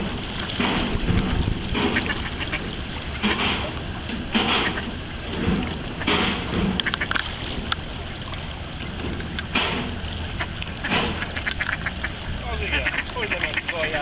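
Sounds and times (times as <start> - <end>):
steady low rumble: 0.0 - 14.0
ducks quacking: 1.7 - 7.2, 8.0 - 14.0.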